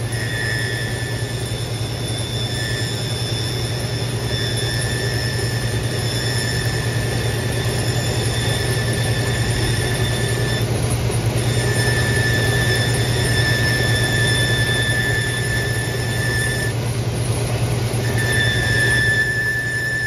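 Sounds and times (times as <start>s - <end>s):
motor humming: 0.0s - 20.0s
thin high squeal: 0.0s - 20.0s.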